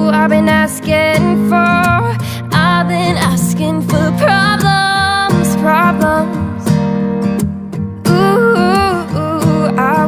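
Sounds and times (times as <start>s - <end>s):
song with guitar: 0.0s - 10.0s.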